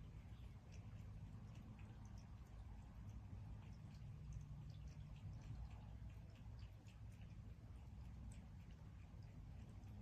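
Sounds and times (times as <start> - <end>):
cat lapping water: 0.0 - 10.0
low steady hum: 0.0 - 10.0.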